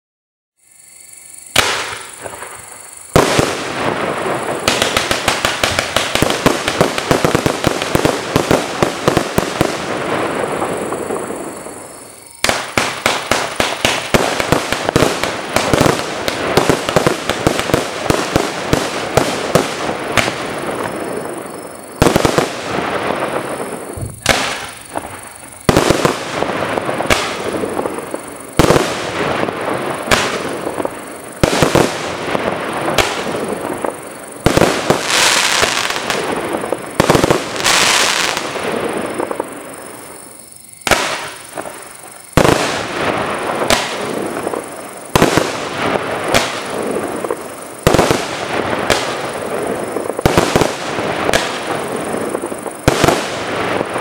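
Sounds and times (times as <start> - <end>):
fizzing crackling fireworks: 0.6 - 54.0
firework bangs: 1.4 - 54.0.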